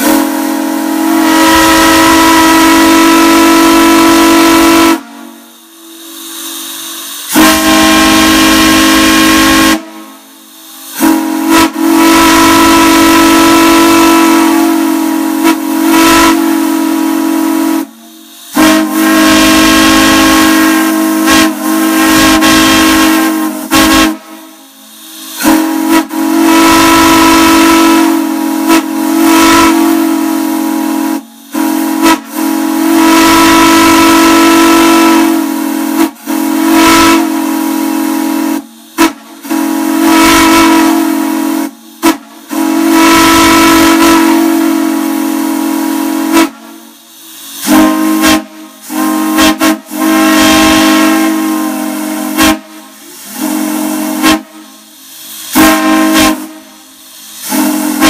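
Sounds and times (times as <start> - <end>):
steam hissing: 0.0 - 58.0
steam whistles blowing chord: 0.0 - 58.0.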